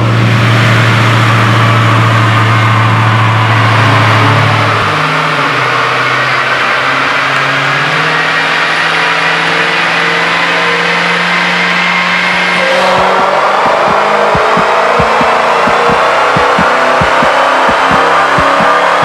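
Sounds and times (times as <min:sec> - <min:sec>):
car engine revving on dynamometer: 0:00.0 - 0:19.0.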